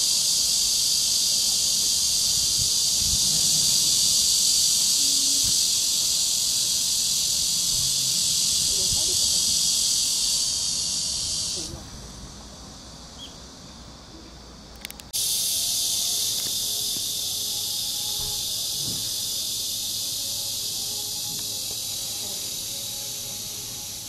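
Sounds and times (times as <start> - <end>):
cicada chorus buzzing: 0.0 - 24.0.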